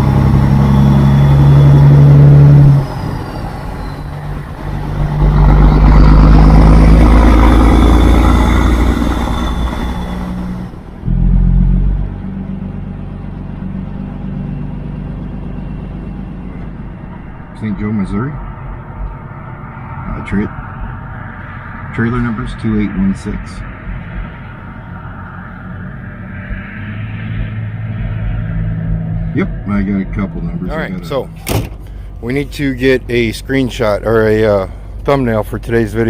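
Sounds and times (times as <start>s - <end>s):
truck diesel engine under load: 0.0s - 26.2s, 27.4s - 36.0s.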